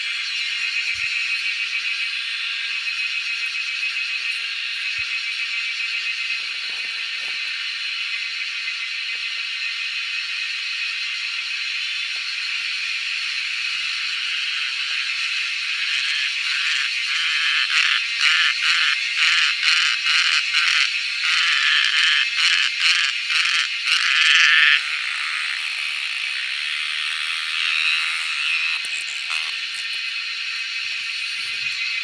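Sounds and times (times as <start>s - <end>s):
cicadas buzzing chorus: 0.0s - 32.0s
close cicada pulsing buzz: 0.0s - 32.0s.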